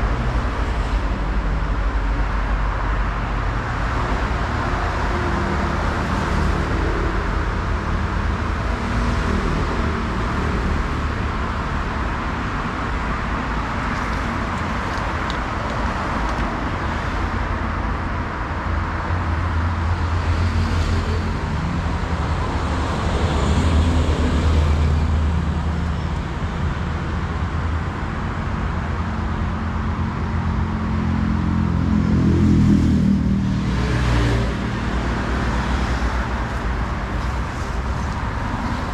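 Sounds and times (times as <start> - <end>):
heavy vehicle engines running: 0.0 - 38.9.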